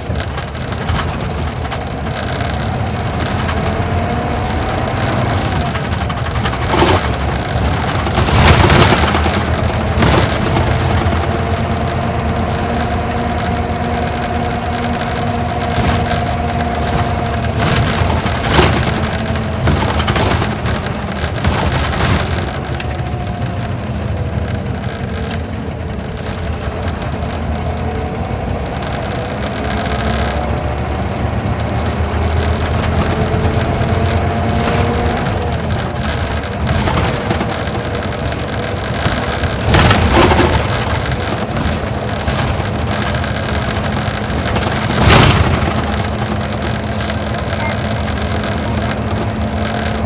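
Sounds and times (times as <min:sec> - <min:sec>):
bus body rattling: 0:00.0 - 0:50.0
bus diesel engine running: 0:00.0 - 0:50.0
road noise: 0:00.0 - 0:50.0.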